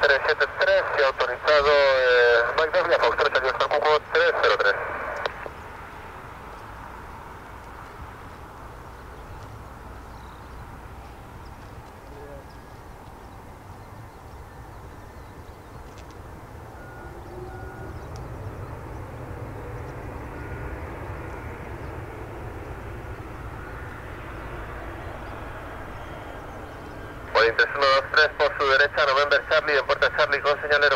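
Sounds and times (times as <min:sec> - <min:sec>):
jet airliner landing rumble: 0:00.0 - 0:30.9.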